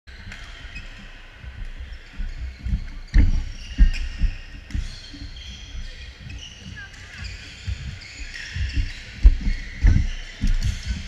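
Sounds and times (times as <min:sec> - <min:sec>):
shoe squeaks on wooden floor: 0:00.5 - 0:11.0.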